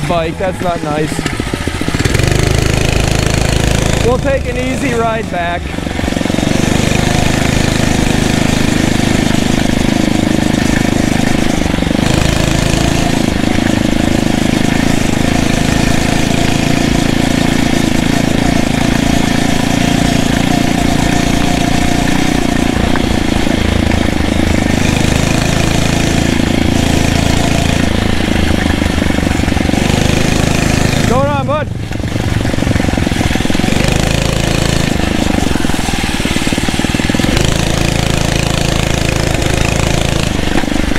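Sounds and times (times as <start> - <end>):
motorized bicycle engine running: 0.0 - 40.9.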